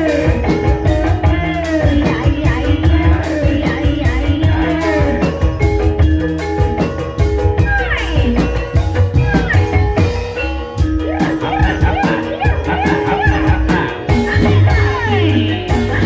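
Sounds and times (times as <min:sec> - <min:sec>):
rapid hand-drum strokes: 0:00.0 - 0:16.0.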